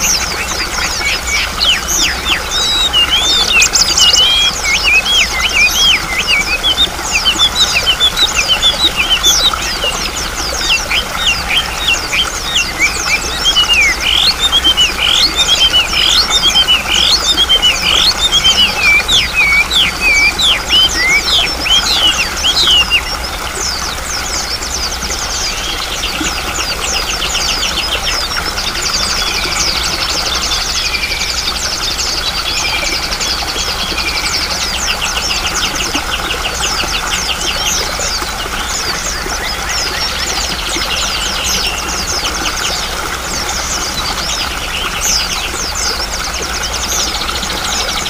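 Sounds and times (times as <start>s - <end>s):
flowing water rushing: 0.0s - 48.0s
songbirds chirping and trilling: 0.0s - 48.0s.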